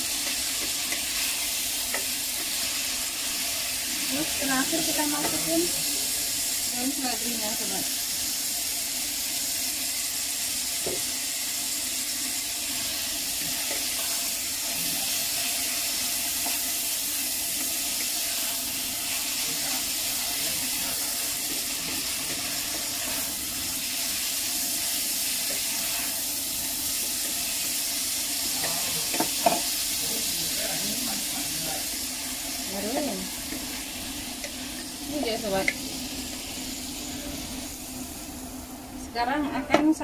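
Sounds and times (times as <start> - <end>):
vegetables sizzling in a pan: 0.0 - 40.0.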